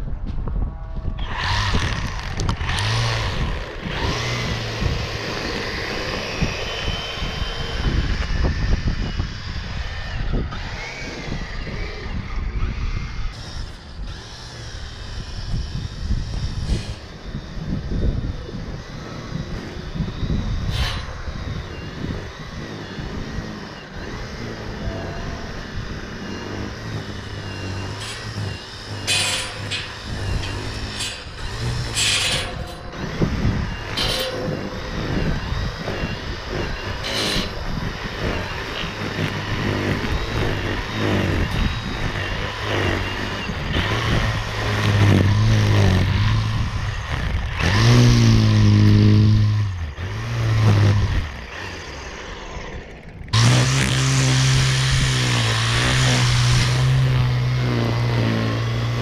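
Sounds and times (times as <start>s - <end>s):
string trimmer cutting grass: 1.0s - 59.0s.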